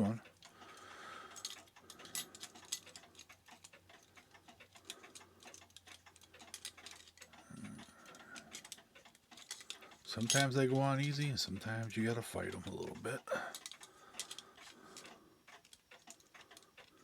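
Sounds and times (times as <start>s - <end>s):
small metallic clicks and scrapes: 0.2s - 12.0s, 13.5s - 17.0s.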